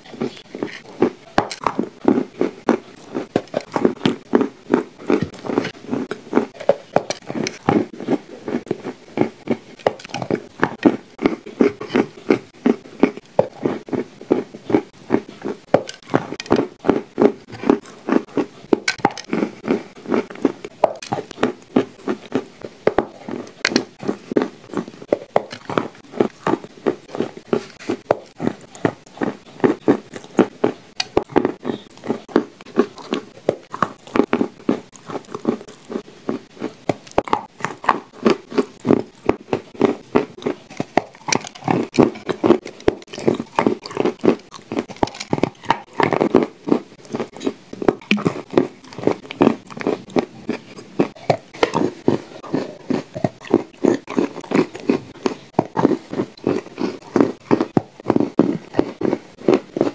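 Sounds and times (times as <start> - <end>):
crunchy chewing: 0.0 - 59.9.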